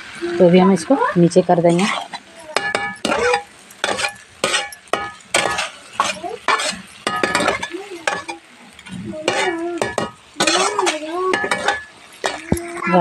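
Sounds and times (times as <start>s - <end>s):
metal spatula scraping a pan: 1.7s - 13.0s.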